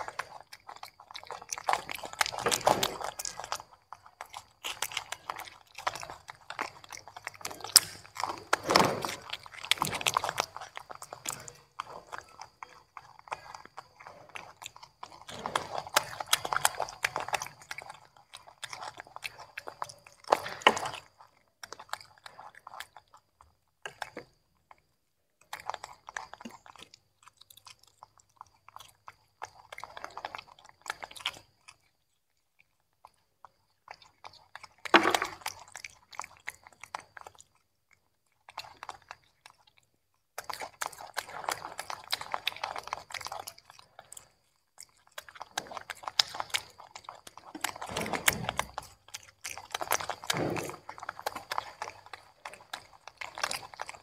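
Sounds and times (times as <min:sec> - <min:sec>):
monkeys chewing crunchy vegetables: 0:00.0 - 0:54.0.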